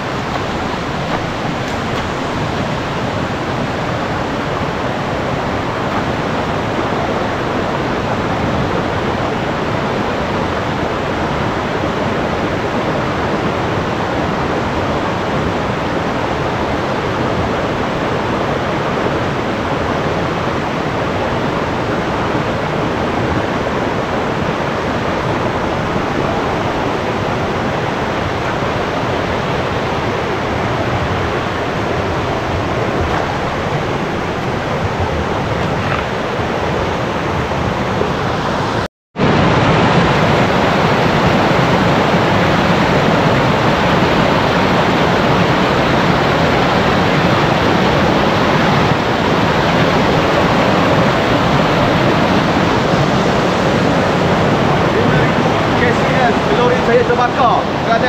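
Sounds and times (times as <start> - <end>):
waterfall and rapids roaring: 0.0 - 58.0.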